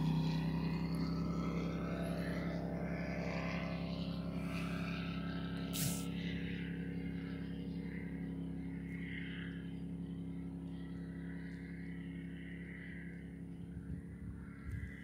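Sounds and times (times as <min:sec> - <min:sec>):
distant motorboat engine droning: 0:00.0 - 0:15.0.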